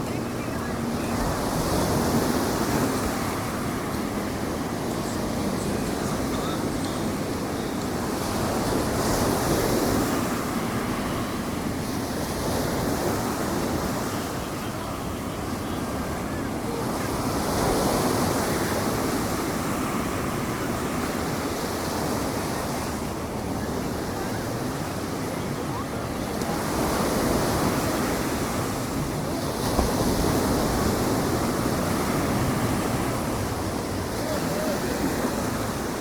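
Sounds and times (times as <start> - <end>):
ocean surf breaking: 0.0 - 36.0.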